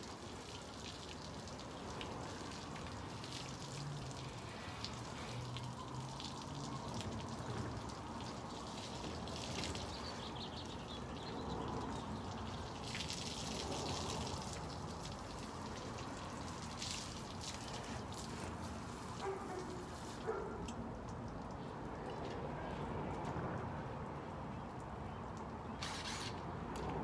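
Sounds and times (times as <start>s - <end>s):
hose water spraying on car: 0.0s - 20.7s, 25.6s - 27.0s.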